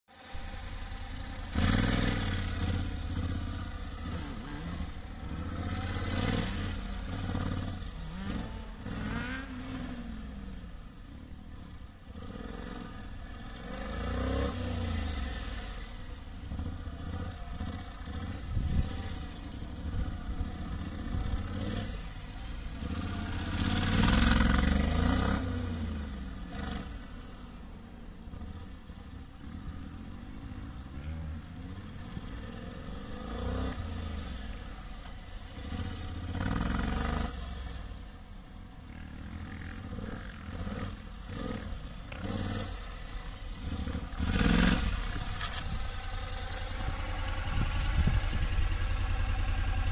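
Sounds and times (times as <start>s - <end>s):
motorcycle engine revving: 0.1s - 49.9s.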